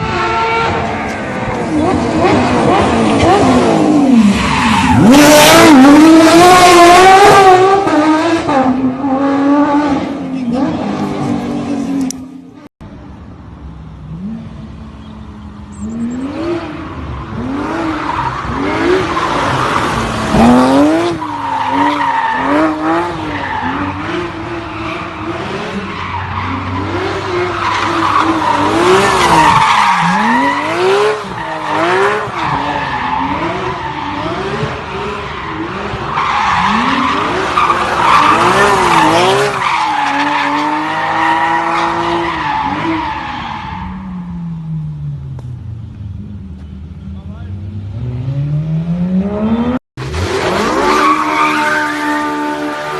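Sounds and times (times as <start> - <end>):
car engine revving: 0.0 - 12.7, 14.0 - 45.6, 47.7 - 52.9.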